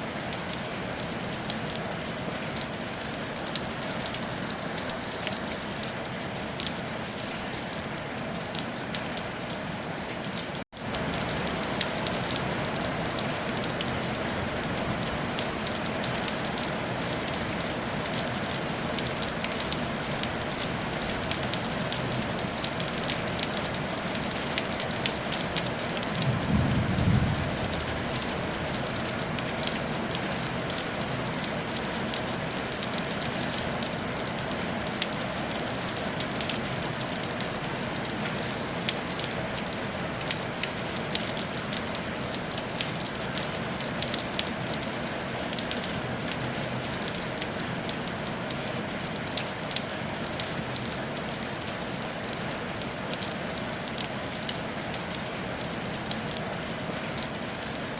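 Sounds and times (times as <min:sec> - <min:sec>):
rain on a tile roof: 0:00.0 - 0:57.9.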